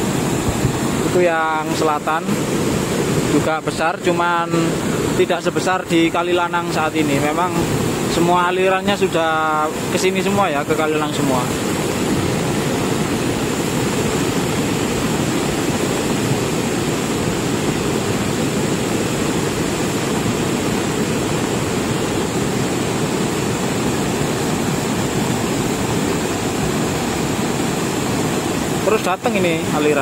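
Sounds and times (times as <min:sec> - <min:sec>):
mudflow rushing down a river channel: 0:00.0 - 0:30.0.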